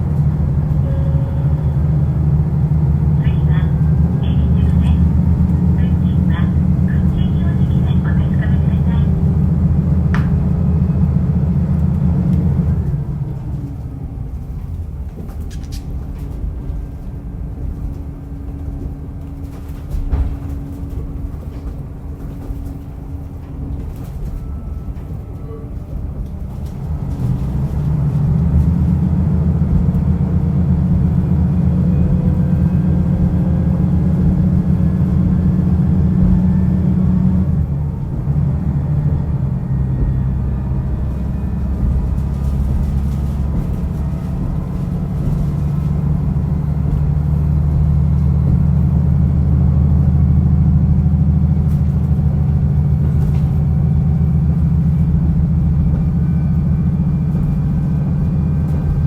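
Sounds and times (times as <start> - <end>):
diesel railcar engine: 0.0 - 59.0
rail and running noise: 0.0 - 59.0.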